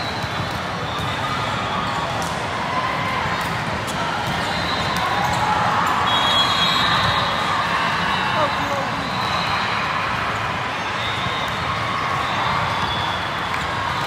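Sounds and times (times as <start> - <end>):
crowd chatter: 0.0 - 14.0.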